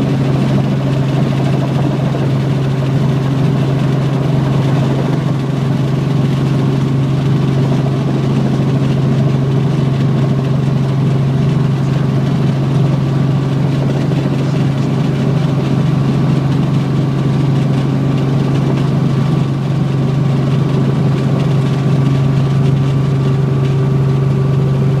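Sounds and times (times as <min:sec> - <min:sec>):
helicopter engine and rotor drone: 0:00.0 - 0:25.0.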